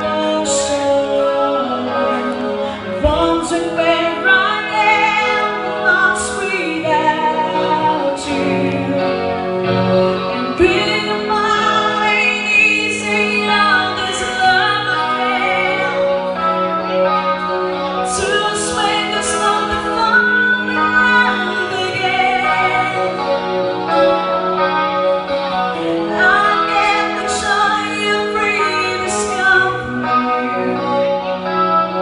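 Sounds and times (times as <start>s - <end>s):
live rock band playing: 0.0s - 32.0s
melodic lead line: 0.0s - 32.0s.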